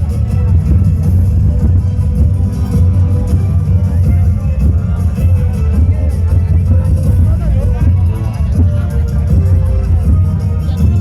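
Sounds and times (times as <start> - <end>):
live band music with booming bass: 0.0 - 11.0.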